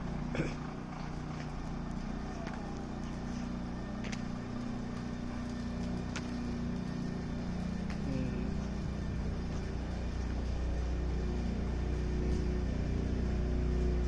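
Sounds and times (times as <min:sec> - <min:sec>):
vehicle running hum: 0:00.0 - 0:14.0.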